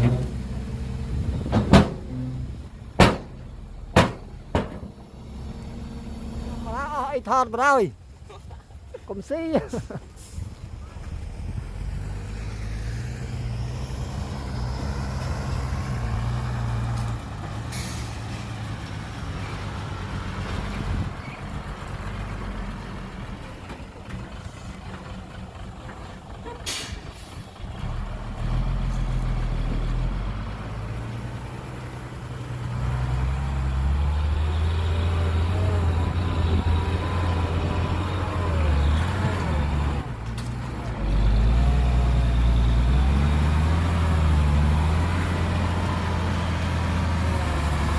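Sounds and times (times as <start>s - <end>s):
heavy diesel engines running: 0.0s - 47.9s.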